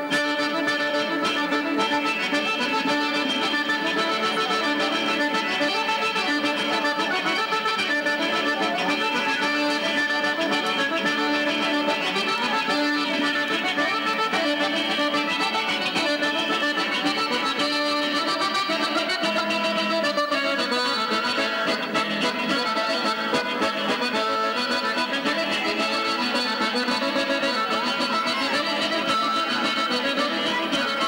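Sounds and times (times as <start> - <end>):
accordion dance tune: 0.0 - 31.0.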